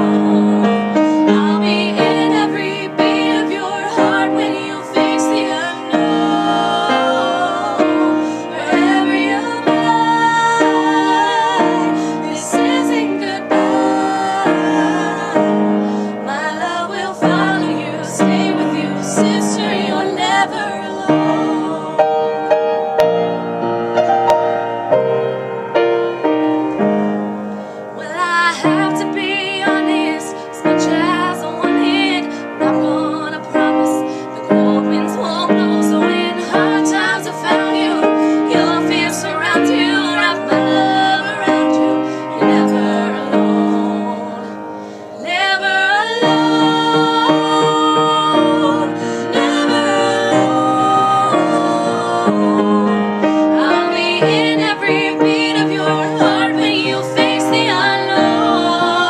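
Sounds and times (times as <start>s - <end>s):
women singing with vibrato: 0.0s - 22.8s, 27.6s - 59.0s
piano chords: 0.0s - 59.0s.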